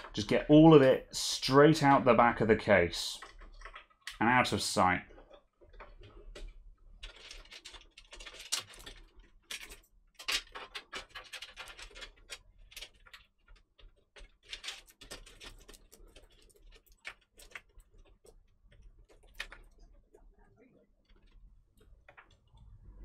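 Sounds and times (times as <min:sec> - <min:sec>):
cables knocking and scraping on case: 0:03.2 - 0:04.3, 0:05.0 - 0:22.9.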